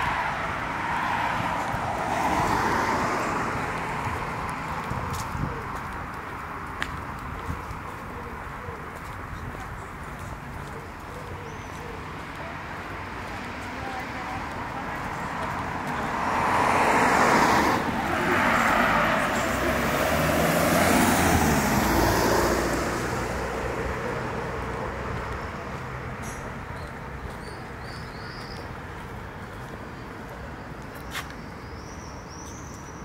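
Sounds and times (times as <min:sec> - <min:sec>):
traffic background hum: 0:00.0 - 0:33.0
vehicles driving by: 0:00.0 - 0:33.0.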